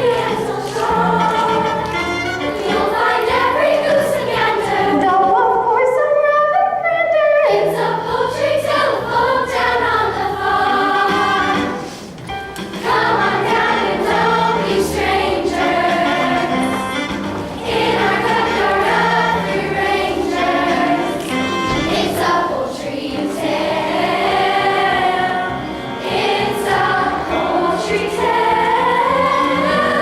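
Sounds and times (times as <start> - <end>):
group of voices singing: 0.0 - 5.0, 7.5 - 12.0, 12.8 - 16.8, 17.6 - 30.0
instrumental accompaniment: 0.0 - 5.6, 7.4 - 30.0.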